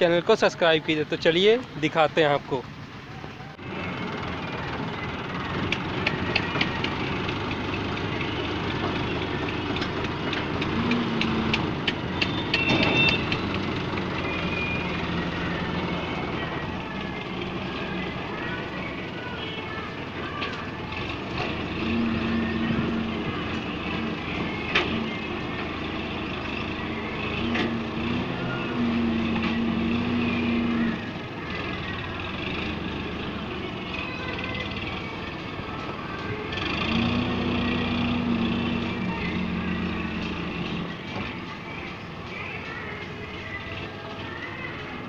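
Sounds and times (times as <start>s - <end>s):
tractor diesel engine revving: 3.5s - 44.2s.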